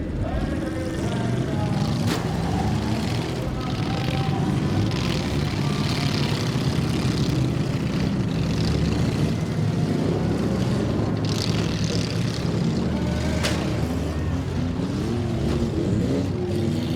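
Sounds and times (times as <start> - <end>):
engine droning: 0.0 - 16.9.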